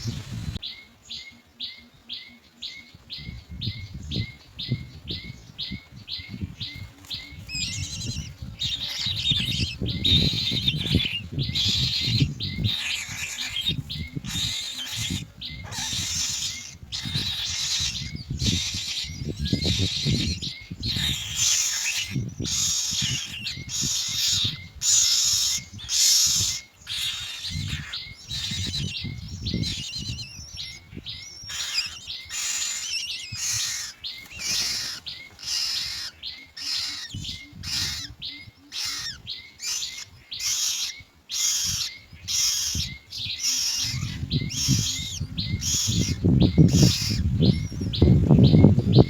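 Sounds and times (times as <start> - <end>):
chicks rasping begging calls: 0.0 - 49.0.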